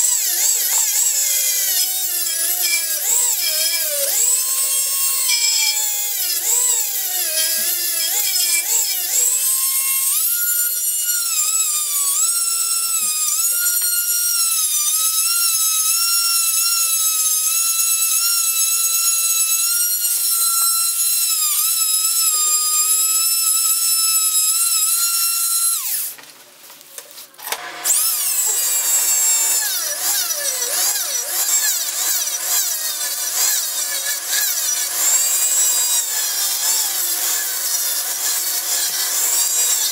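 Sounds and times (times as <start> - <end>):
rotary tool grinding steel: 0.0 - 26.2, 27.4 - 39.9.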